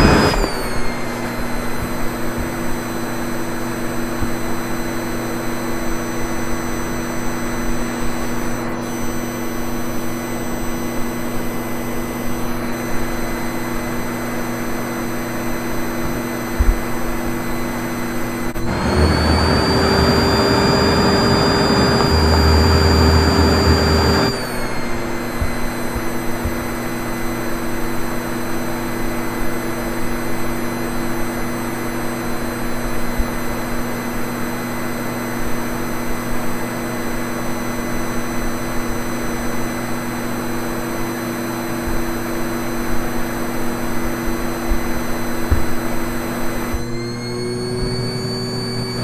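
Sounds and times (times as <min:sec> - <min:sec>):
vacuum cleaner motor whining: 0:00.0 - 0:49.0.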